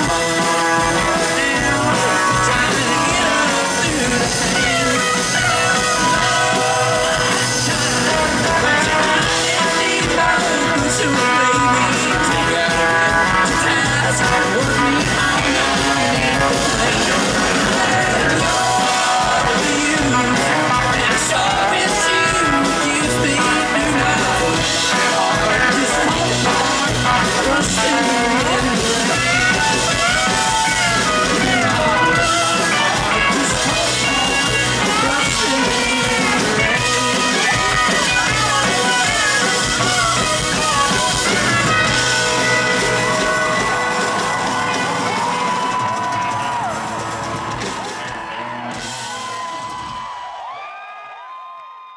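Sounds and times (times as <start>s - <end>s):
live country band playing: 0.0s - 50.5s.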